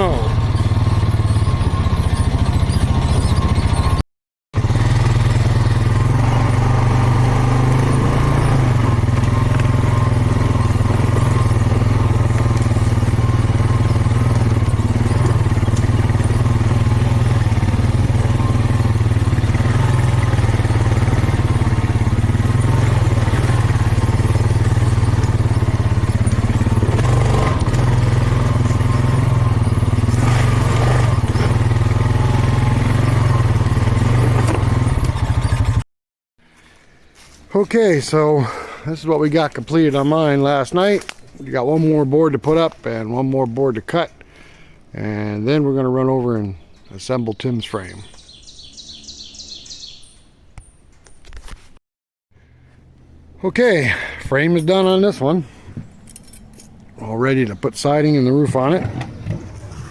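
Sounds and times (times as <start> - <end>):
atv engine droning: 0.0 - 4.0, 4.6 - 35.8, 36.5 - 50.8, 52.4 - 59.9.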